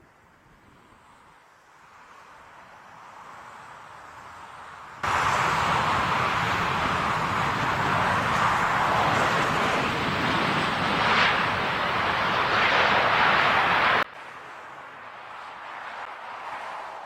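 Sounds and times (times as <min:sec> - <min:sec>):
jet airliner engine roar: 0:00.8 - 0:17.0.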